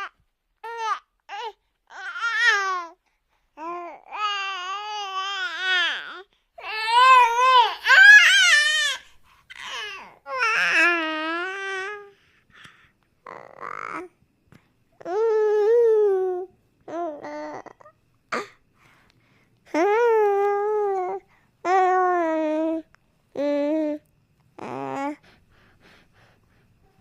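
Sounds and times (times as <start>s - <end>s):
infant cooing and babbling: 0.0s - 3.0s, 3.6s - 12.2s, 13.2s - 14.2s, 15.0s - 18.6s, 19.7s - 25.4s.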